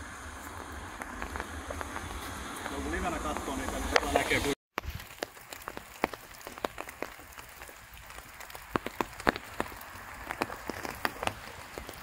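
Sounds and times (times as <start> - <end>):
light rain hiss: 0.0 - 12.0
raindrops ticking: 0.1 - 4.2, 4.8 - 12.0.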